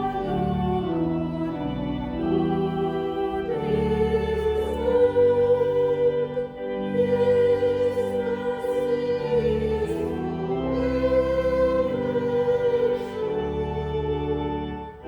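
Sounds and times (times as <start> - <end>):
hymn singing: 0.0 - 15.0
organ chords: 0.0 - 15.0.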